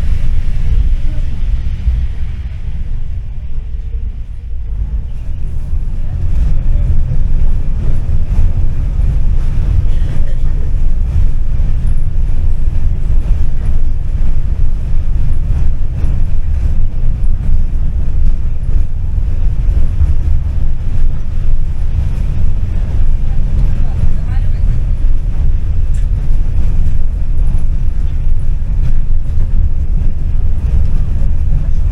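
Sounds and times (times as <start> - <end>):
tram rumbling on rails: 0.0 - 31.9.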